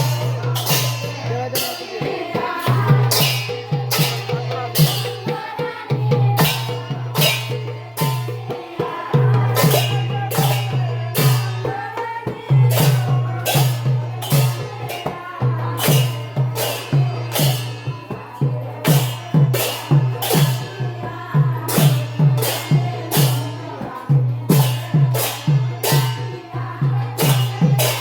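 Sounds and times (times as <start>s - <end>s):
bright percussive strikes: 0.0s - 28.0s.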